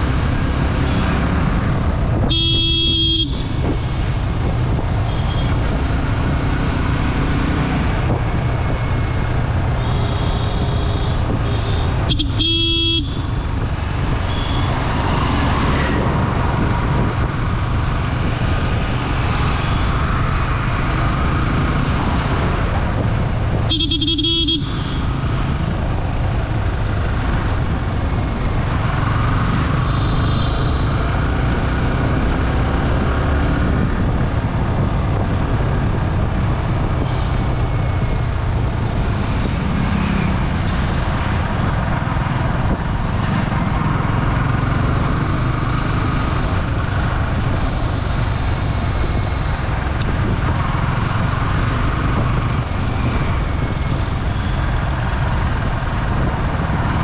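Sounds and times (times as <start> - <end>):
passing traffic: 0.0 - 57.0
road and wind noise: 0.0 - 57.0.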